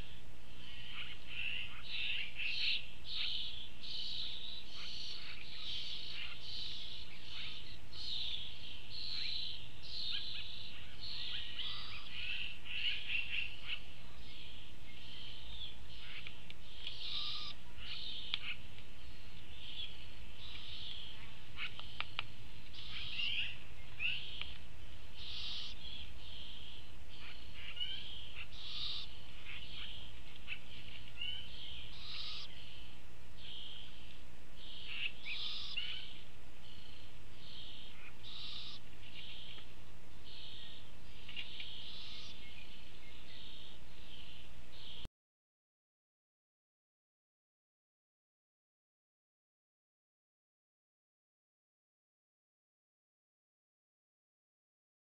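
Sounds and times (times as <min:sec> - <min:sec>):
faint low hum: 0:00.0 - 0:45.1
young owls calling: 0:00.0 - 0:45.1.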